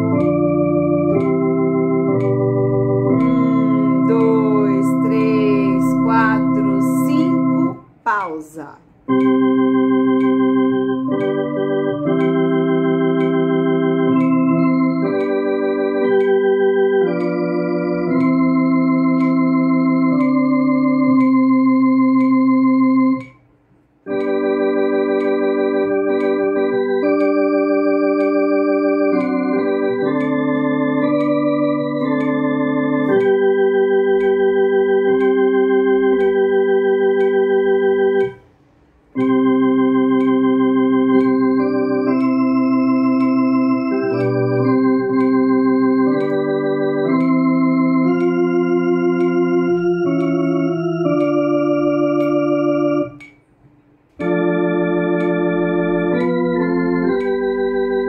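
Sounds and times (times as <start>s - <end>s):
electronic organ playing hymn: 0.0s - 38.4s, 39.0s - 53.5s, 54.1s - 58.0s.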